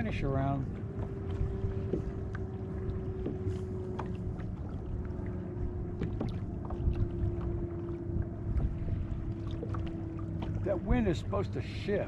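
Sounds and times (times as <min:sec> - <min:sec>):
water washing against plastic hull: 0:00.0 - 0:12.0.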